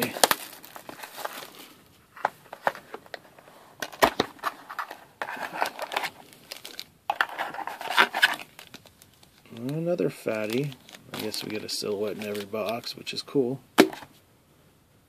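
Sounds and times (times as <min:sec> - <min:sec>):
wrappers crinkling and rustling: 0:00.0 - 0:01.8, 0:02.5 - 0:12.9.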